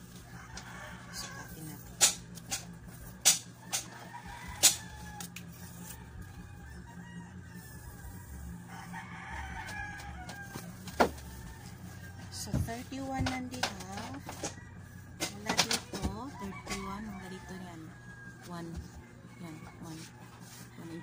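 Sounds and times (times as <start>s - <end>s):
rooster crowing: 0.0s - 1.8s, 2.8s - 21.0s.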